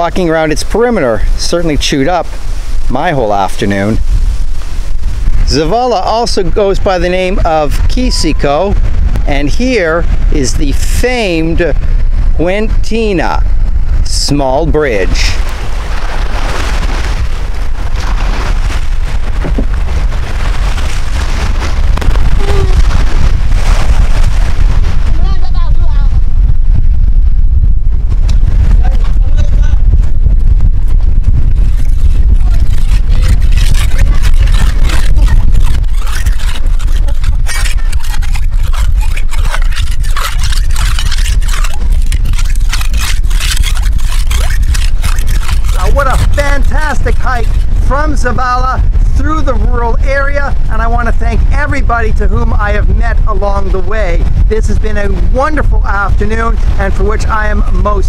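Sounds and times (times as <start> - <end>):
low rumble: 0.0 - 58.0
wind buffeting microphone: 0.0 - 58.0.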